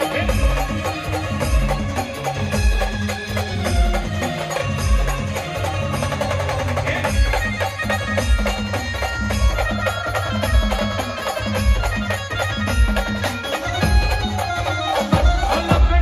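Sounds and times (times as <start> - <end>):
band playing folk music: 0.0 - 16.0.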